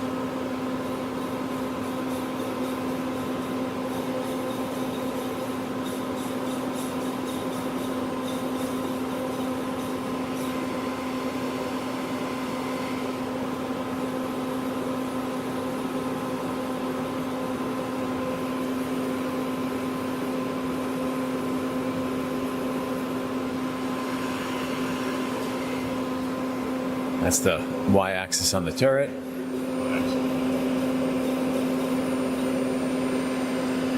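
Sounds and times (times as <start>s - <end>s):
lathe machine hum: 0.1s - 28.0s, 29.1s - 33.9s.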